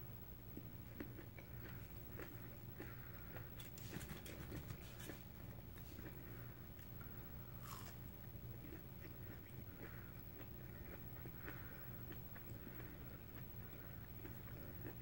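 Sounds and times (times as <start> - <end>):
low steady hum: 0.0 - 15.0
person chewing crunchy snack: 0.8 - 3.9, 4.9 - 15.0.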